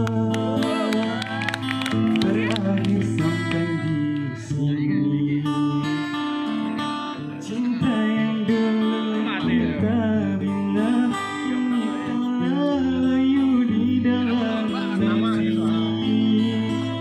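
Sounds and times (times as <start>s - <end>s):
acoustic guitars strummed: 0.0s - 17.0s
man singing: 0.0s - 17.0s.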